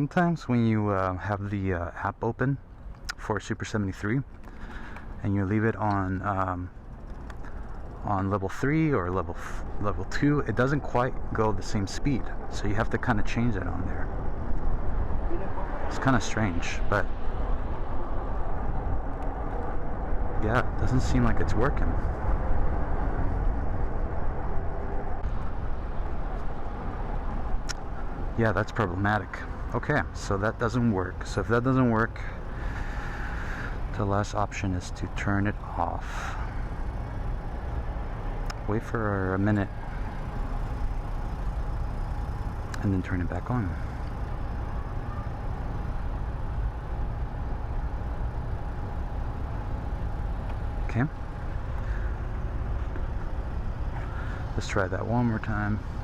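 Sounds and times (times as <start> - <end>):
faint constant hum: 0.0 - 56.0
road noise: 0.0 - 56.0
street traffic rumble: 0.0 - 56.0.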